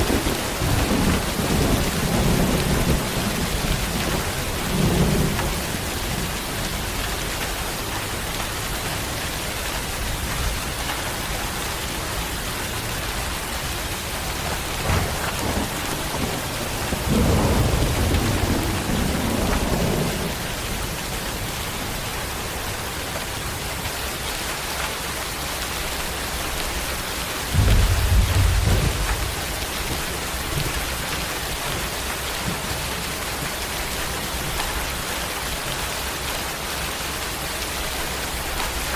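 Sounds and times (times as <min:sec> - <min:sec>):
thunder rumbling: 0:00.0 - 0:09.0, 0:09.8 - 0:23.7, 0:26.3 - 0:35.0
heavy rain falling: 0:00.0 - 0:38.9.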